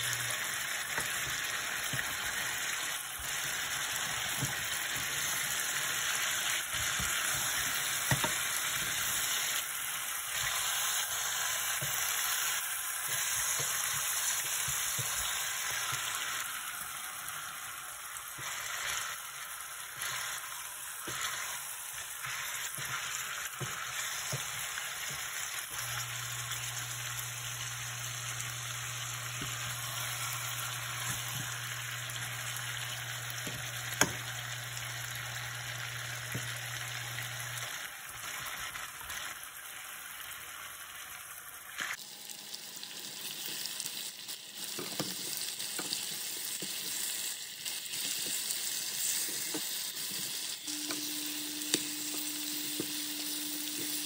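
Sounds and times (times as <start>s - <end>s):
chicken sizzling in pan: 0.0s - 54.0s.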